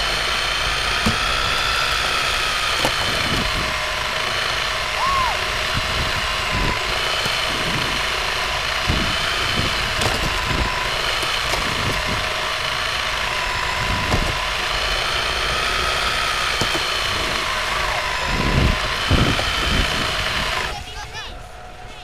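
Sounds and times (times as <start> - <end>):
constant rumble: 0.0 - 22.0
toy car motor whining: 0.0 - 22.0.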